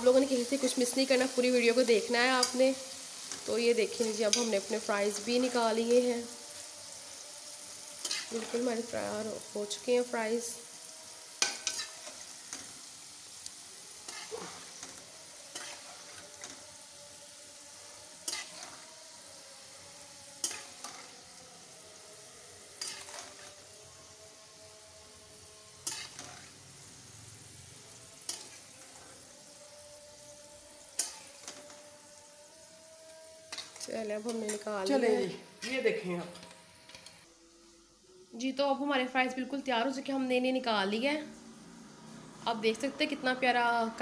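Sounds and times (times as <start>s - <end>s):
oil sizzling: 0.0s - 44.0s.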